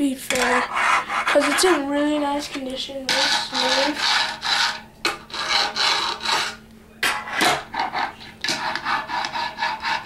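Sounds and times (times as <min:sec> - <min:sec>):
scraping strokes on wood: 0:00.3 - 0:10.0.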